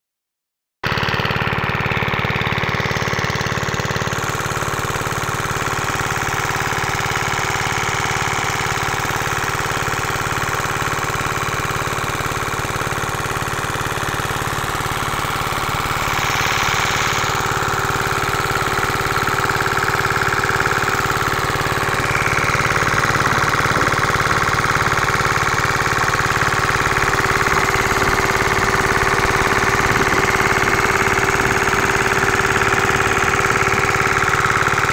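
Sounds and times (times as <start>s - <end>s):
water pump diesel engine running: 0.9s - 34.9s.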